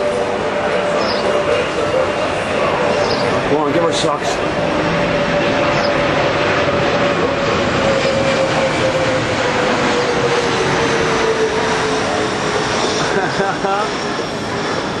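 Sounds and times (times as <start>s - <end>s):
engine drone with falling tone: 0.0s - 15.0s.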